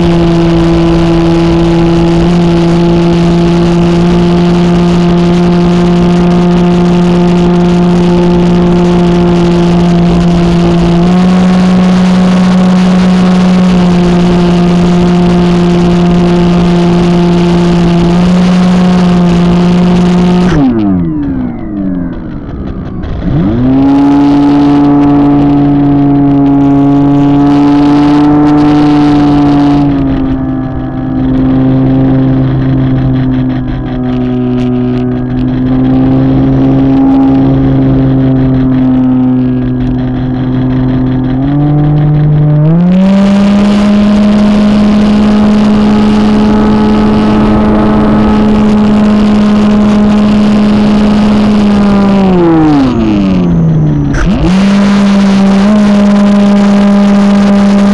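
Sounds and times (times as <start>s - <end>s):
model airplane motor and propeller drone: 0.0s - 57.9s.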